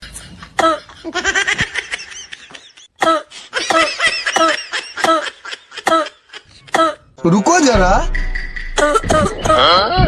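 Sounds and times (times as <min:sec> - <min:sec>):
person laughing: 0:00.2 - 0:07.0, 0:08.8 - 0:10.0.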